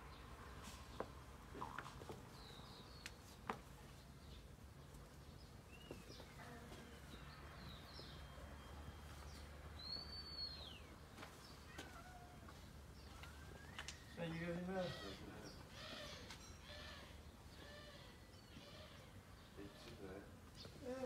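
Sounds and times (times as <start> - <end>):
faint birdsong chirps: 0.0 - 21.0.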